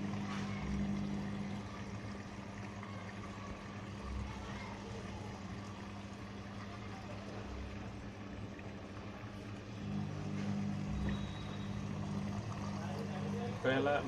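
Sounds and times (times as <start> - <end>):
washing machine motor hum: 0.0 - 14.0
water churning in drum: 0.0 - 14.0.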